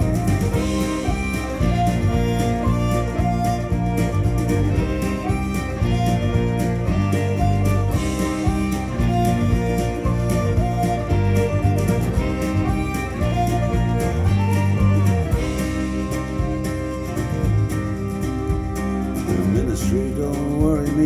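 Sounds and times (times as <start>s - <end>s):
bass: 0.0s - 21.0s
fiddle: 0.0s - 21.0s
guitar playing tune: 0.0s - 21.0s
steady drum beat: 0.0s - 21.0s.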